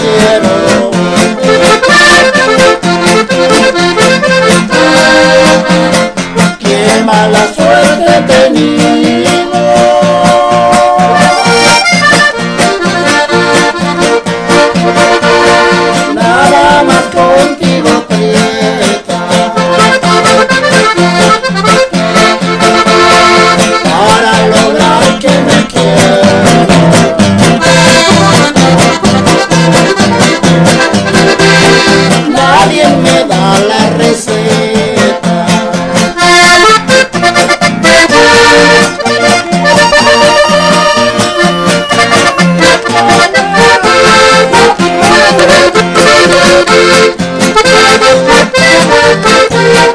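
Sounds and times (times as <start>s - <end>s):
accordion melody: 0.0s - 49.9s
strummed acoustic guitar: 0.0s - 49.9s.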